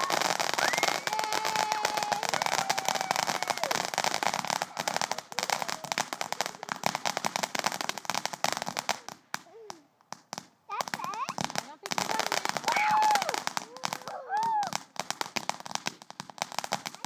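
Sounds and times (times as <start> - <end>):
firework crackling: 0.0 - 17.0.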